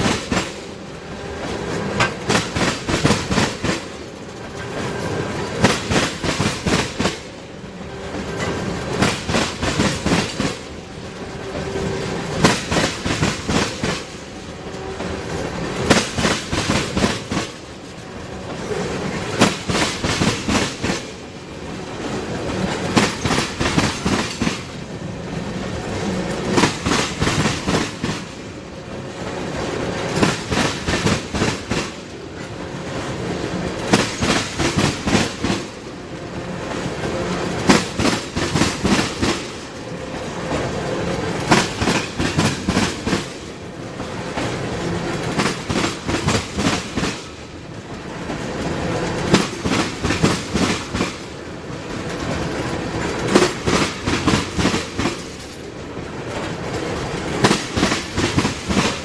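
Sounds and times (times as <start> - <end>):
train rumble: 0.0 - 59.0
train wheels clattering over rail joints: 0.0 - 59.0.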